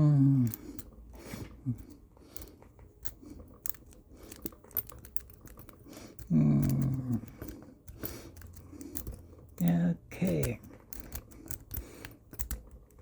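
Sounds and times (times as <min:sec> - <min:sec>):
lock pick clicking in lock: 0:00.4 - 0:01.0, 0:01.8 - 0:13.0.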